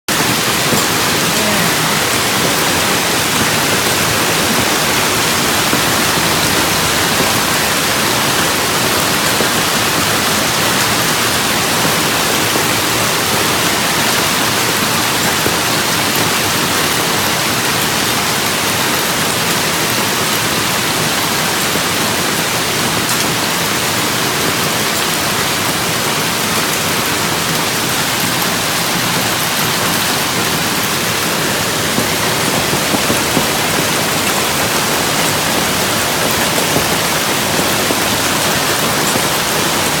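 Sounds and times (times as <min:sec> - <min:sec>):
hail and rain falling hard: 0:00.1 - 0:40.0.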